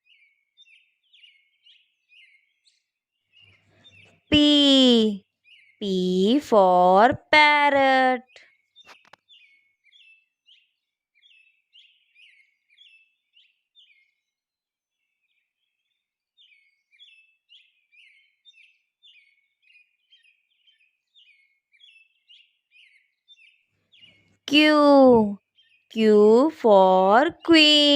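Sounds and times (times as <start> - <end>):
faint bird chirping: 0.0 - 7.1, 7.8 - 27.9.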